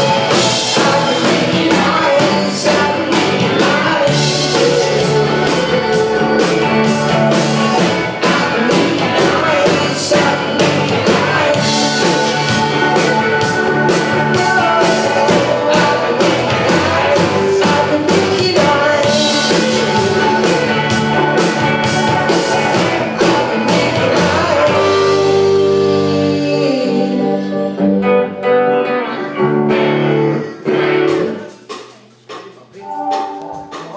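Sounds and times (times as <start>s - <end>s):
person singing: 0.0s - 33.9s
rock band playing live: 0.0s - 33.9s.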